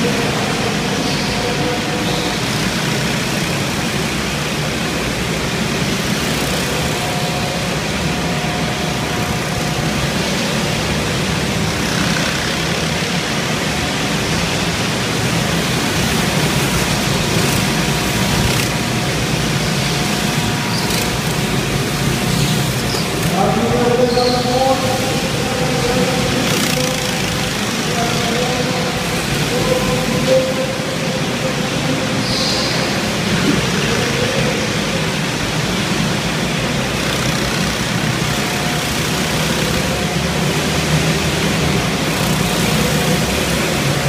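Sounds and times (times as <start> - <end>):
go-kart engines running: 0.0 - 44.0.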